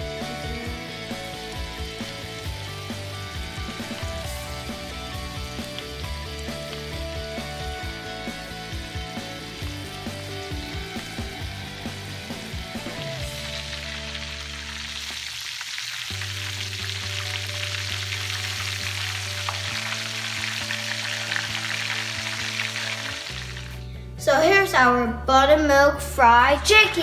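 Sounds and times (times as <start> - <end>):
background music with held chords: 0.0 - 15.2, 16.1 - 27.0
chicken deep-frying in oil: 0.0 - 23.9.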